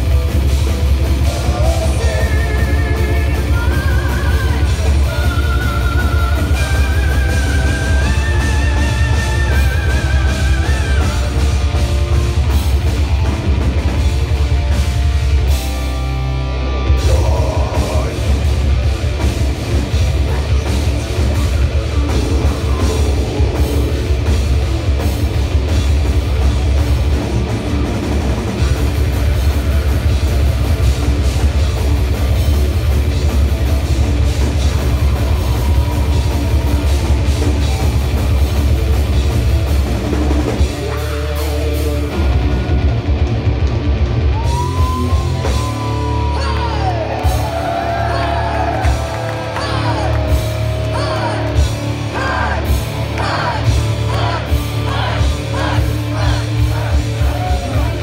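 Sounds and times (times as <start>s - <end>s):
bass guitar: 0.0s - 58.0s
distorted electric guitars: 0.0s - 58.0s
drum kit: 0.0s - 58.0s.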